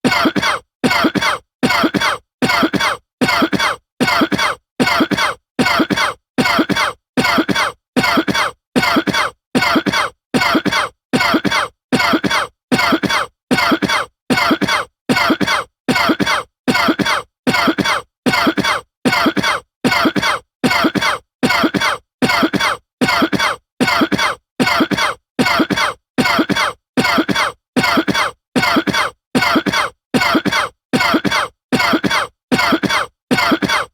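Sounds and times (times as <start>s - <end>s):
man coughing: 0.1s - 33.9s.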